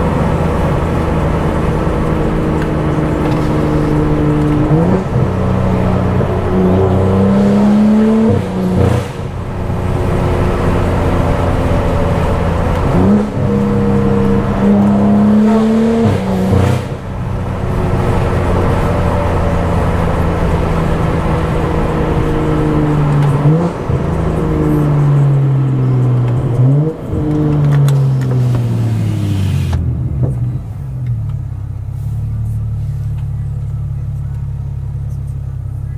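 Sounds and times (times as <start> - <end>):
car engine revving through gears: 0.0 - 35.9
exhaust cracks: 0.0 - 35.9.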